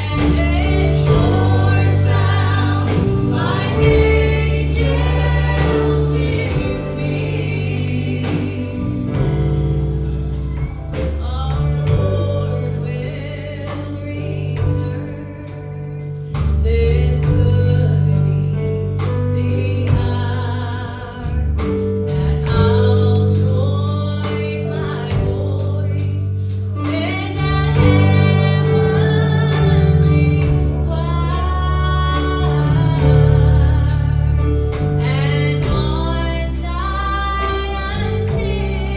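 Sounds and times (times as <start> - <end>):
woman singing: 0.0 - 4.8, 11.1 - 15.9, 16.6 - 38.9
gospel choir singing: 0.0 - 10.2, 10.9 - 15.2, 19.3 - 38.9
instrumental backing with bass: 0.0 - 38.9.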